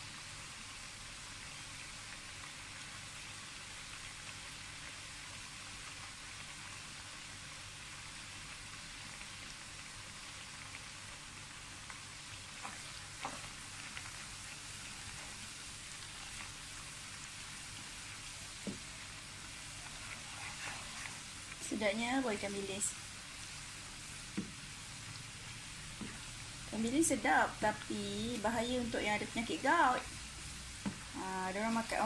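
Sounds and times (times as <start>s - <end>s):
fish deep-frying in oil: 0.0s - 32.0s.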